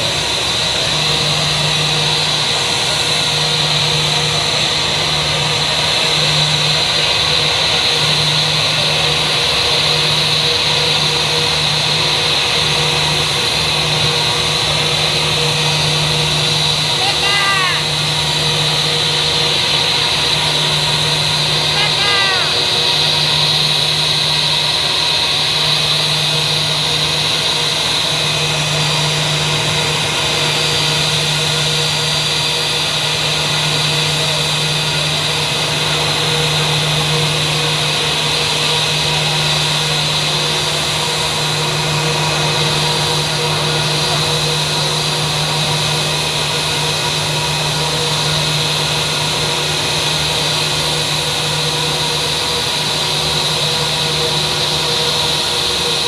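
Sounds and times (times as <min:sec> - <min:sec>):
airliner cabin engine hum: 0:00.0 - 0:56.0.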